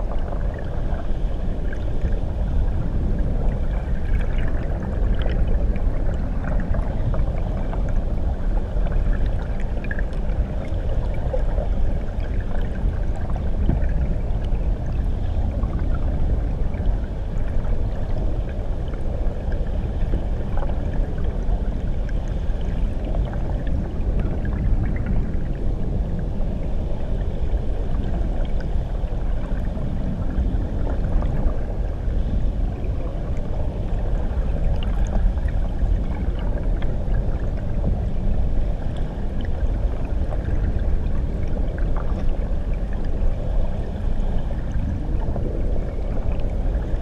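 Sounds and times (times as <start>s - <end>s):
faint bubbling and gurgling: 0.0s - 47.0s
muffled underwater waterfall rumble: 0.0s - 47.0s.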